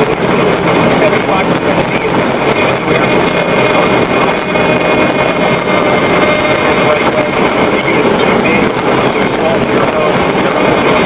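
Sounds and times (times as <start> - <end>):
rushing wind: 0.0 - 11.0
vehicle engine hum: 0.0 - 11.0.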